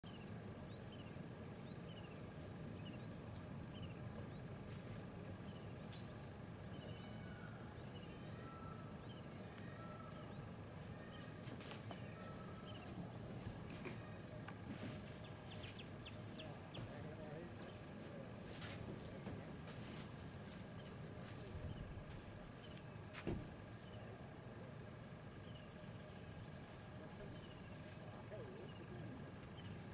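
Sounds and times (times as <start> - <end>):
high insect drone: 0.0 - 29.9.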